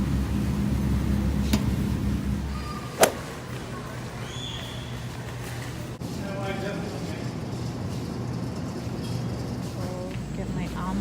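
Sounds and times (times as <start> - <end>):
shopping cart rolling: 0.0 - 11.0.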